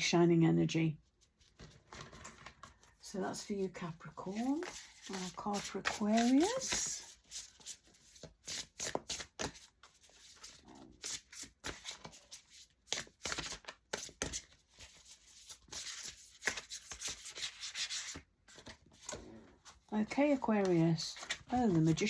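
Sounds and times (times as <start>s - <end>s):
cards being shuffled: 4.3s - 22.0s.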